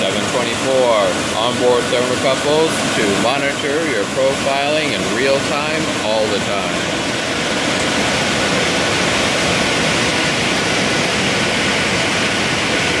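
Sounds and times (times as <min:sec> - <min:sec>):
oven blowers rushing air: 0:00.0 - 0:13.0.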